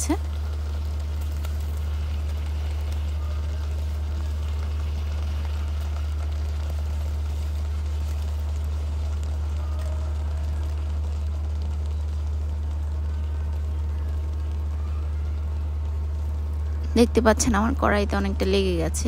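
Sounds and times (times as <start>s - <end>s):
constant low hum: 0.0s - 19.0s
food deep-frying in hot oil: 0.0s - 19.0s.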